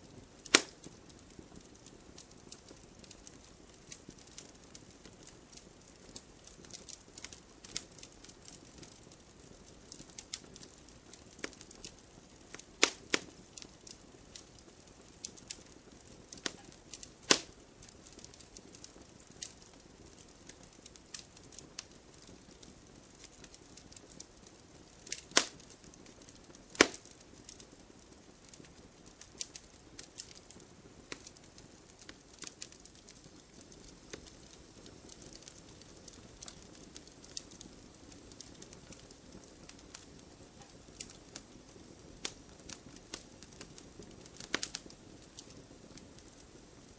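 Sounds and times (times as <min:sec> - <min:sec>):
fire popping and snapping: 0:00.0 - 0:46.9
low steady hiss: 0:00.0 - 0:46.9
wood fire crackling: 0:00.0 - 0:46.9.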